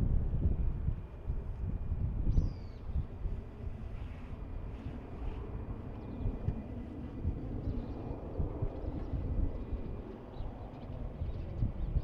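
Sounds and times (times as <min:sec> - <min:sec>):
distant jet engines rushing: 0:00.0 - 0:12.0
wind buffeting microphone: 0:00.0 - 0:12.0.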